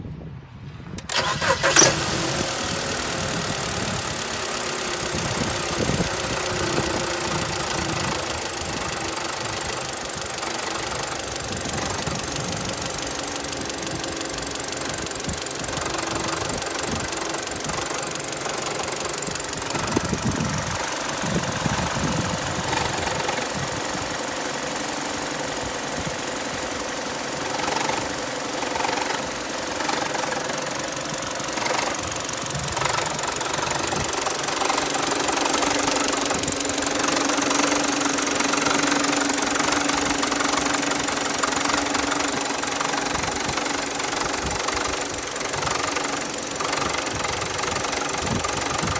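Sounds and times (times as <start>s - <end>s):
car engine running: 1.0s - 48.9s.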